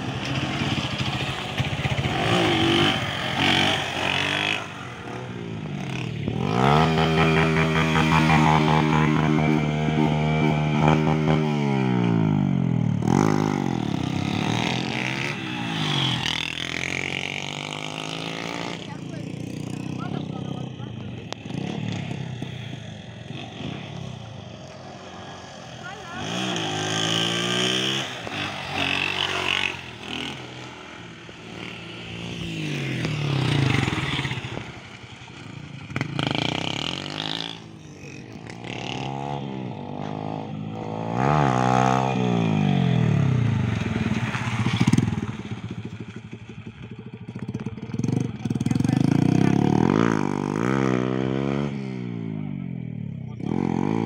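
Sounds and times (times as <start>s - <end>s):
small motorcycles revving past: 0.0s - 46.4s.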